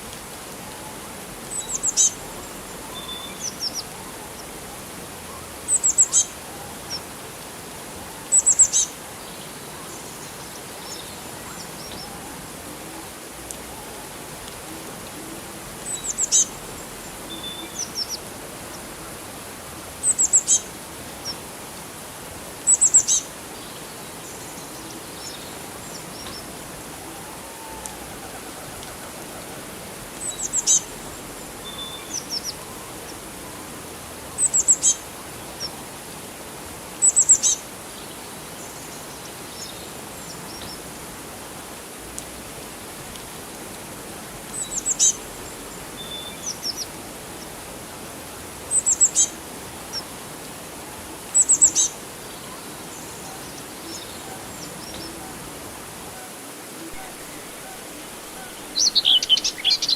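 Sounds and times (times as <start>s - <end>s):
running water: 0.0s - 59.9s
songbird singing: 0.6s - 21.6s, 22.5s - 41.2s, 41.8s - 59.9s.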